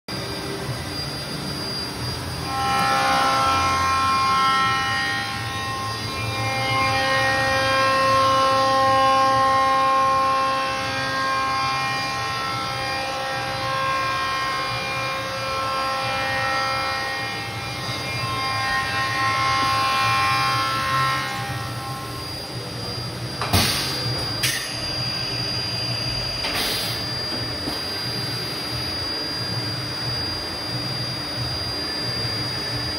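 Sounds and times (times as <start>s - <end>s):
milling machine whining: 0.1s - 32.9s.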